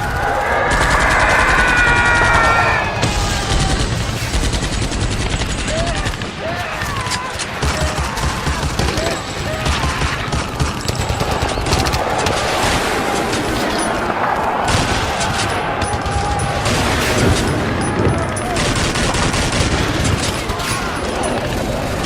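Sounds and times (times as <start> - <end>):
rifle and machine-gun fire: 0.0 - 22.0.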